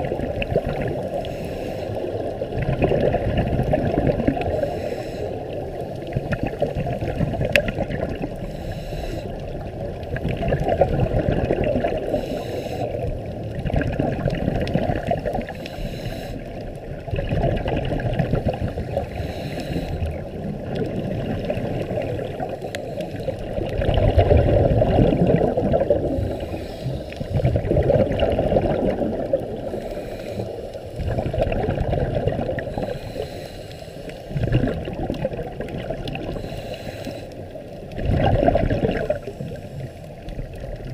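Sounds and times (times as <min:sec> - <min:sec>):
scuba exhaled bubbles: 0:00.0 - 0:15.8, 0:16.4 - 0:33.4, 0:34.2 - 0:40.9
underwater rumble of water: 0:00.0 - 0:40.9.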